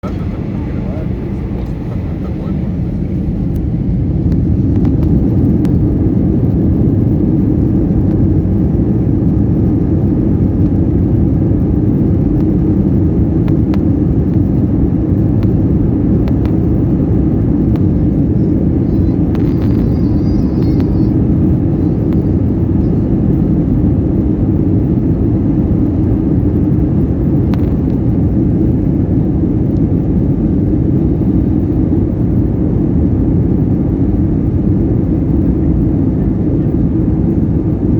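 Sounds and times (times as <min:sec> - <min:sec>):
jet engines rumbling at takeoff: 0:00.0 - 0:37.9.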